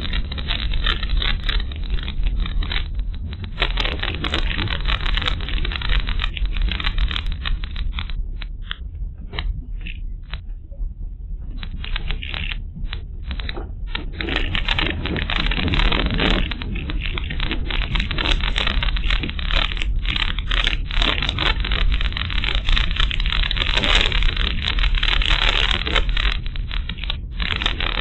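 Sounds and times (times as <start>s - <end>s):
crackling and scraping: 0.0s - 28.0s.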